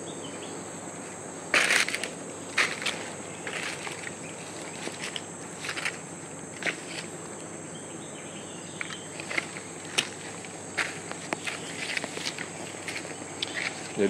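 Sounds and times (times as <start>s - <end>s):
high-pitched insect drone: 0.0s - 14.0s
footsteps crunching on forest floor: 1.0s - 7.6s, 8.6s - 14.0s.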